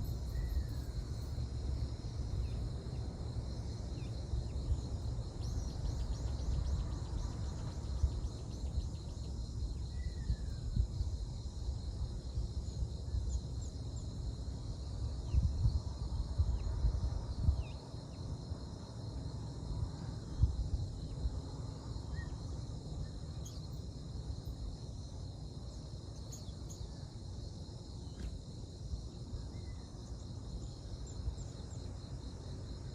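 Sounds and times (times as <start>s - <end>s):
insect chorus trilling: 0.0s - 32.9s.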